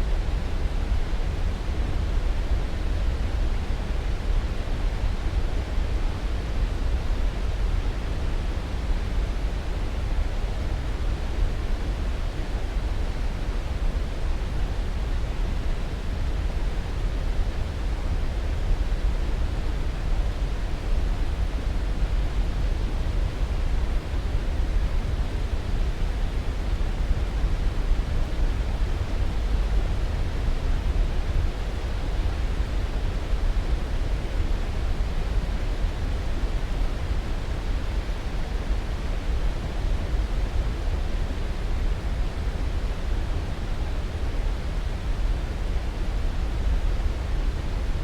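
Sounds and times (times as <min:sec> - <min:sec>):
steady low hiss: 0:00.0 - 0:48.0.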